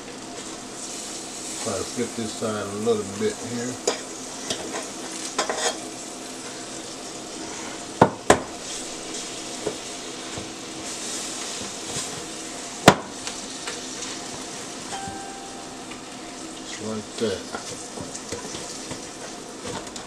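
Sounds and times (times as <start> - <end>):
chicken sizzling: 0.0 - 20.0.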